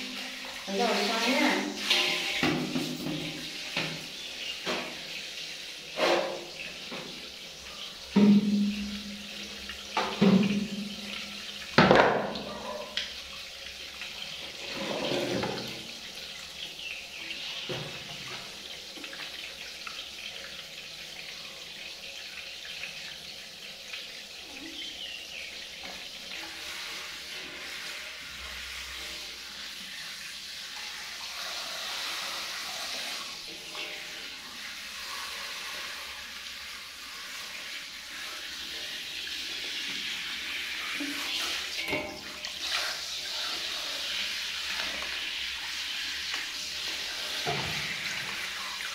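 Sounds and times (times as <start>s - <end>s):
shower spraying into metal basin: 0.0s - 48.9s.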